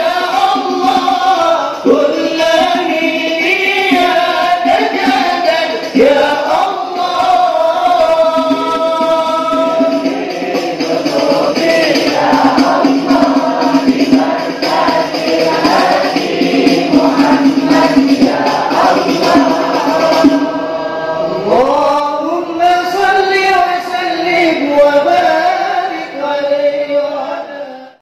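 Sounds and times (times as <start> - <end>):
congregation chanting: 0.0 - 27.8.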